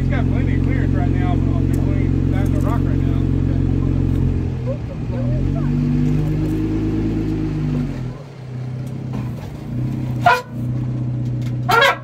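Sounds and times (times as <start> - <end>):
off-road vehicle engine at low revs: 0.0 - 12.0.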